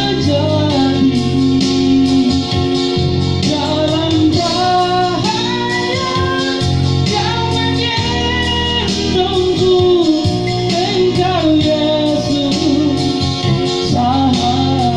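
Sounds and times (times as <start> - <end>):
high voice singing: 0.0 - 2.8, 3.4 - 13.2, 13.8 - 14.9.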